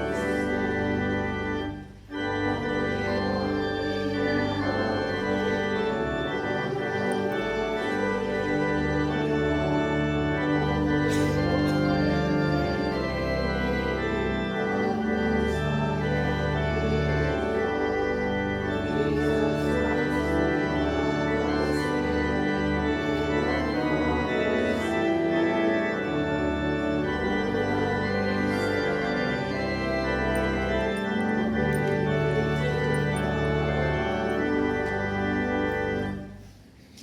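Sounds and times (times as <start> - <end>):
church organ playing a hymn: 0.0 - 37.0.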